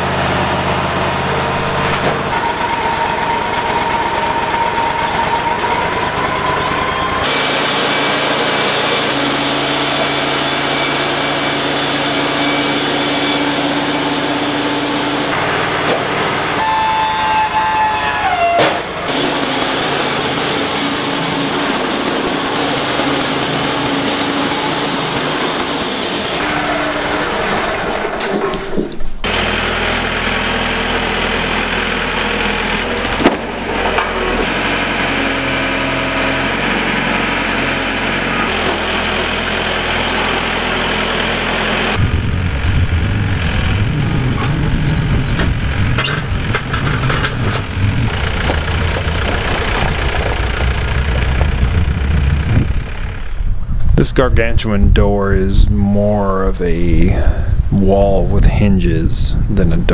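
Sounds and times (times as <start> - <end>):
band sawmill cutting log: 0.0 - 53.5.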